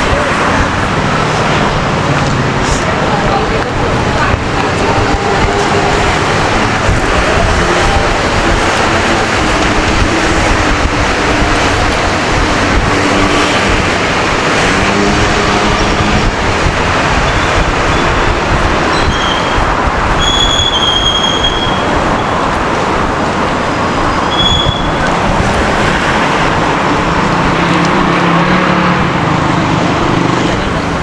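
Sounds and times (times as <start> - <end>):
urban traffic noise: 0.0 - 31.0.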